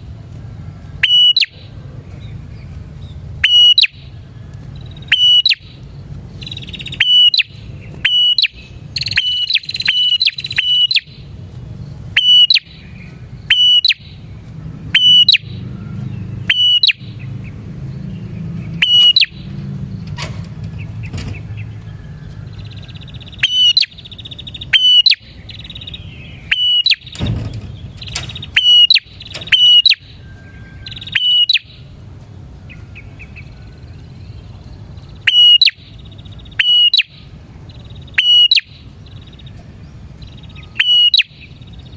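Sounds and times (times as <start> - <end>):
buzzy bird trilling: 1.0 - 20.0, 20.8 - 32.0, 32.7 - 39.6, 40.2 - 41.9
bird sharp chirps: 1.0 - 32.0, 32.7 - 41.9.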